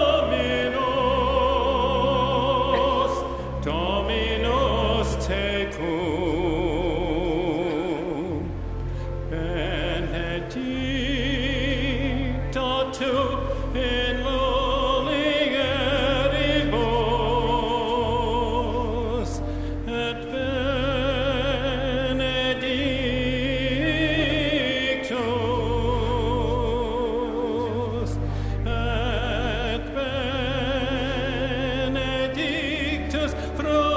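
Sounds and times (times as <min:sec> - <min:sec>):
held low accompaniment notes: 0:00.0 - 0:33.9
liturgical singing with vibrato: 0:00.0 - 0:33.9.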